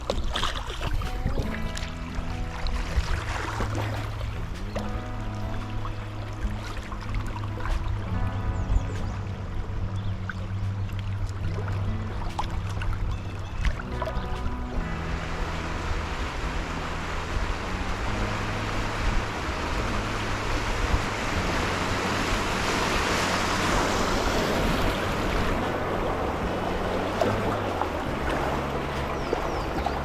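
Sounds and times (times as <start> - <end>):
low background music: 0.0 - 30.0
river water rushing: 0.0 - 30.0.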